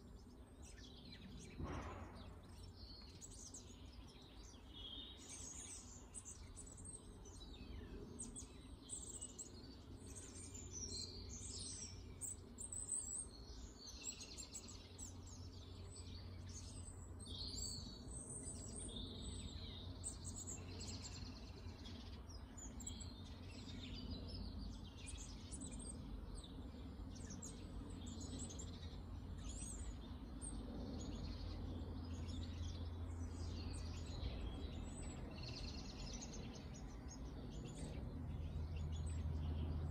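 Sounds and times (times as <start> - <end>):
low background hum: 0.0 - 39.9
songbirds chirping and singing: 0.0 - 39.9.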